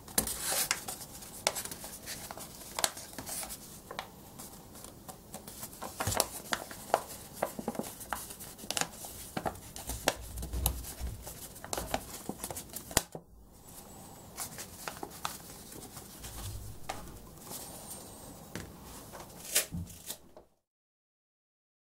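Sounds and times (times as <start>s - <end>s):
paper folding and crinkling: 0.0s - 20.4s.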